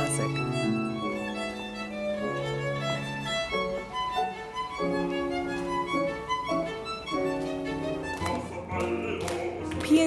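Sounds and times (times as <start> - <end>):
bowed string instrument melody: 0.0 - 8.4.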